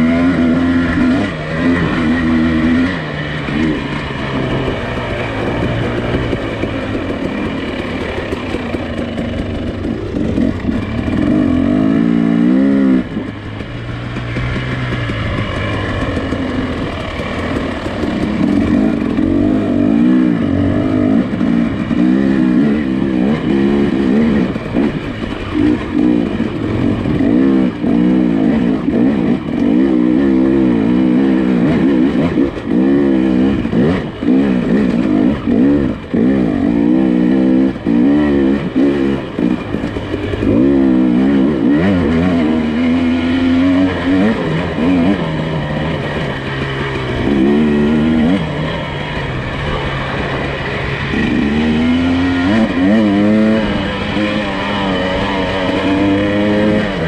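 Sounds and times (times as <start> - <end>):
suv engine revving off-road: 0.0 - 57.0.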